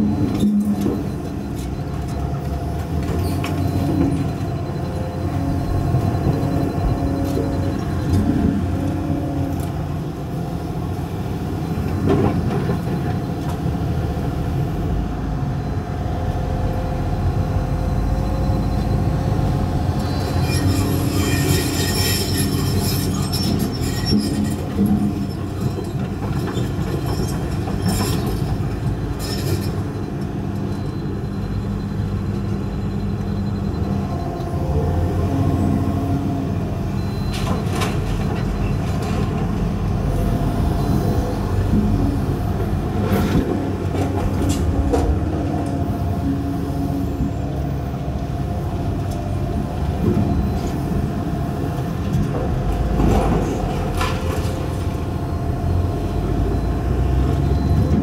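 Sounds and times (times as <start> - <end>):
excavator engine rumbling: 0.0 - 58.0.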